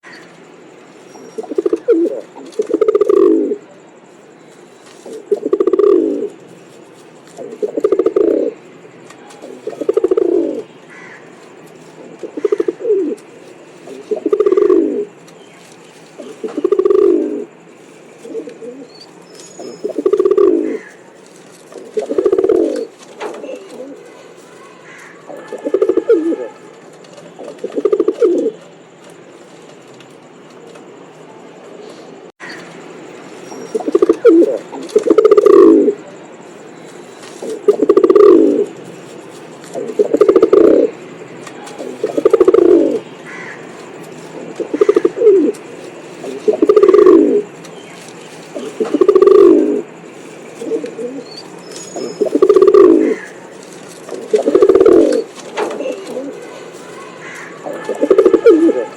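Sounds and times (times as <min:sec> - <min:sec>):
pigeon cooing: 0:01.0 - 0:04.0, 0:04.8 - 0:29.7, 0:33.3 - 0:58.9.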